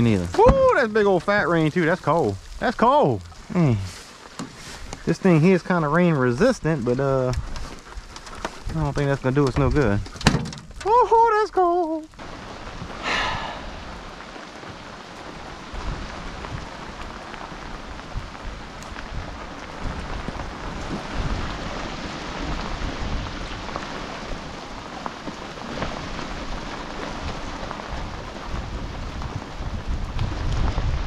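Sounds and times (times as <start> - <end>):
heavy rain on water and boat: 0.0 - 31.0.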